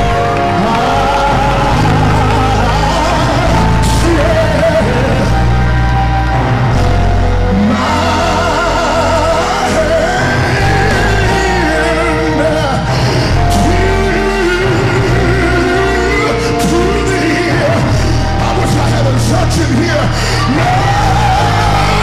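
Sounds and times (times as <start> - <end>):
held chords and deep bass: 0.0 - 22.0.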